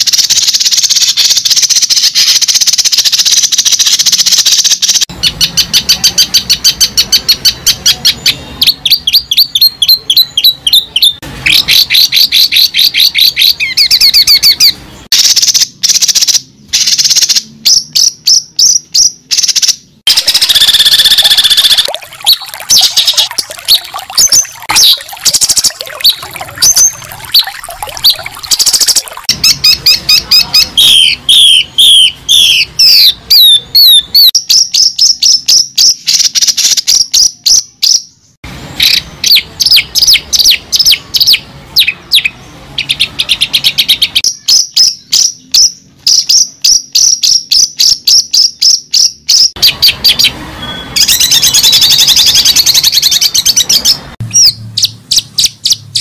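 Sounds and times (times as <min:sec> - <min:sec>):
birds chirping and calling: 0:00.0 - 0:38.0, 0:38.8 - 0:56.0.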